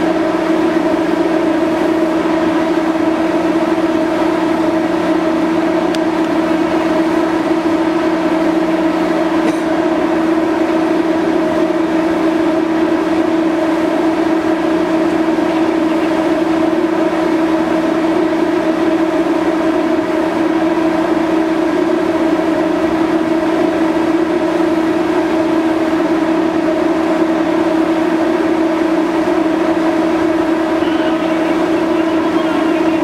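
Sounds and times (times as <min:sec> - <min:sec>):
ship machinery droning: 0:00.0 - 0:33.0.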